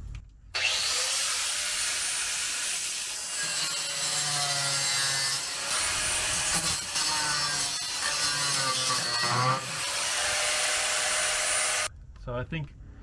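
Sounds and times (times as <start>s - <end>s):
angle grinder grinding metal: 0.6s - 11.9s.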